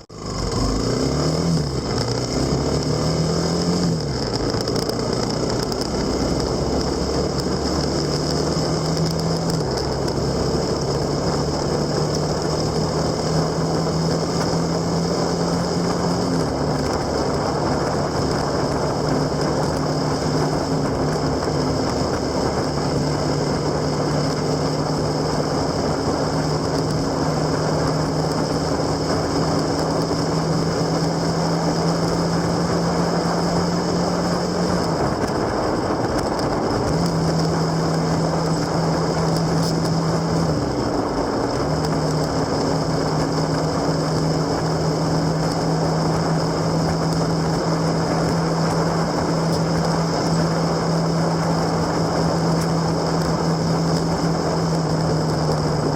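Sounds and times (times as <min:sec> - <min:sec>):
motorcycle engine running: 0:00.0 - 0:55.9
wind rush: 0:00.0 - 0:55.9.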